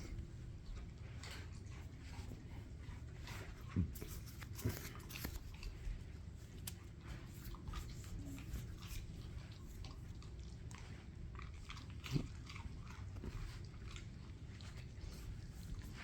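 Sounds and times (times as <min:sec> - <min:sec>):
dogs crunching treats: 0:03.0 - 0:16.0.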